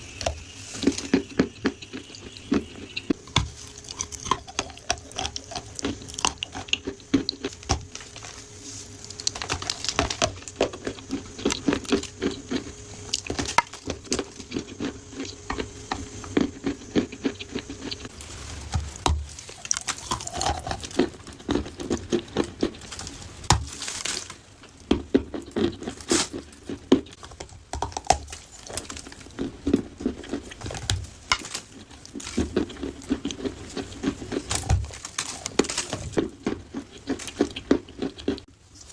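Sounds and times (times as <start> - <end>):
baked clay being chewed: 0.1 - 38.9.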